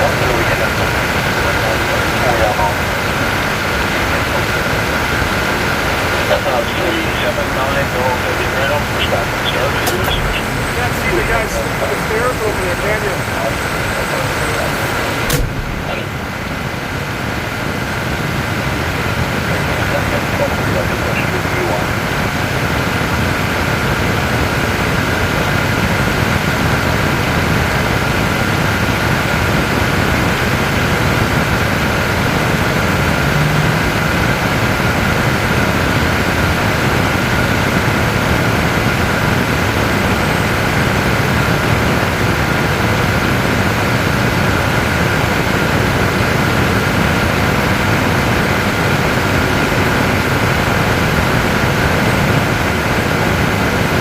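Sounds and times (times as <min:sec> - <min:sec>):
constant jet whine: 0:00.0 - 0:54.0
jet engine rush: 0:00.0 - 0:54.0.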